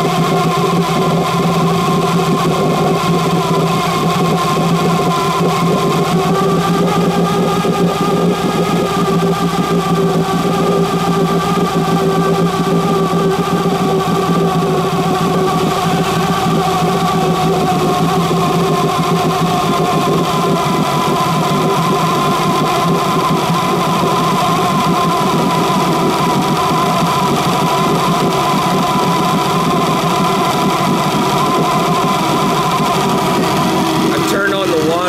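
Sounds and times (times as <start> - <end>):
outboard engine running: 0.0 - 35.0.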